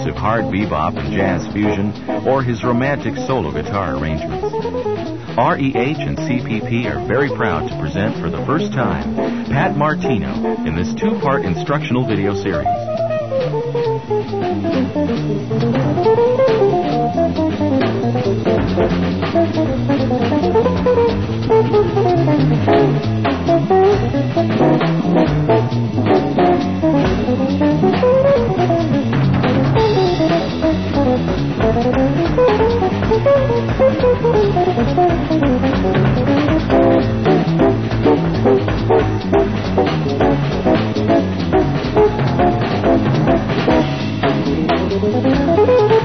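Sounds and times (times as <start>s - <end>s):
electric guitar fast lines: 0.0s - 46.0s
jazz group playing: 0.0s - 46.0s.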